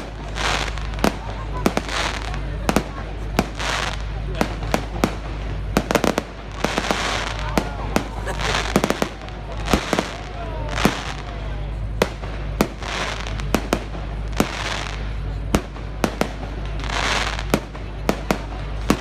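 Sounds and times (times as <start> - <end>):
firework bangs: 0.0 - 19.0
firework crackling: 0.0 - 19.0.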